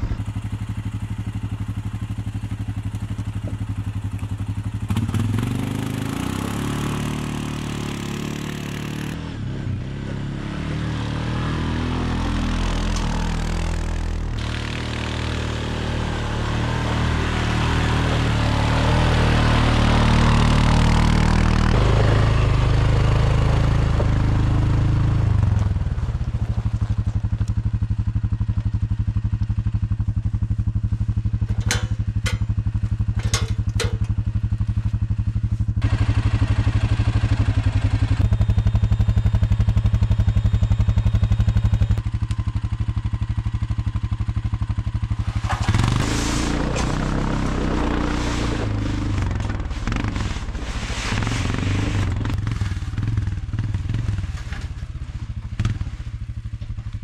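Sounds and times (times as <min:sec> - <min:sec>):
quad bike engine: 0:00.0 - 0:57.0.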